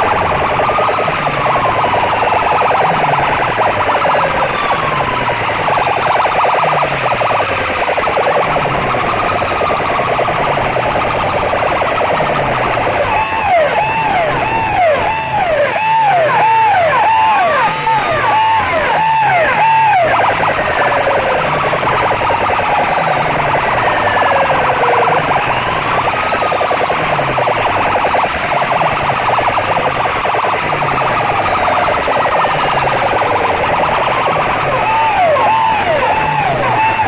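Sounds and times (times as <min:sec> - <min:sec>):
siren whoops and wails: 0:00.0 - 0:37.0.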